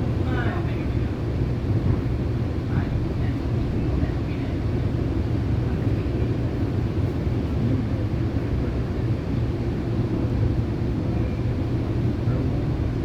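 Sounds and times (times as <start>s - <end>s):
train rumbling: 0.0s - 10.7s.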